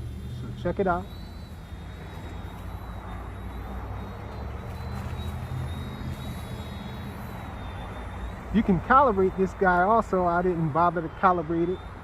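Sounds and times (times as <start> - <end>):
toy helicopter rotor whine: 0.0 - 12.0.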